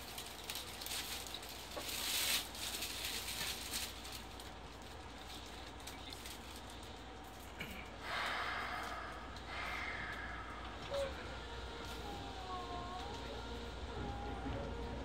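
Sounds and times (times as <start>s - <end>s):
subway car rumbling: 0.0s - 15.0s.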